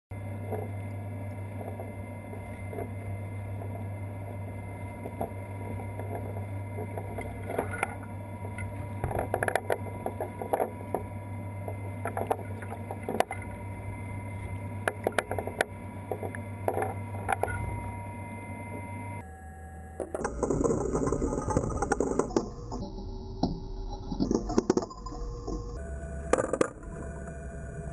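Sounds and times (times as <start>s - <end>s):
machinery hum: 0.1s - 27.9s.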